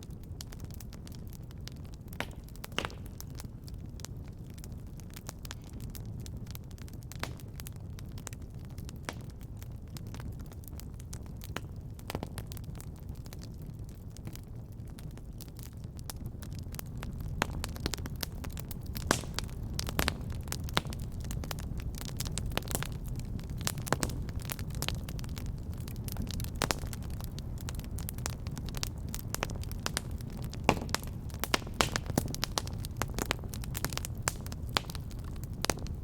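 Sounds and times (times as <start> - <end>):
fire crackling and popping: 0.0 - 36.0
low rumble of flames: 0.0 - 36.0.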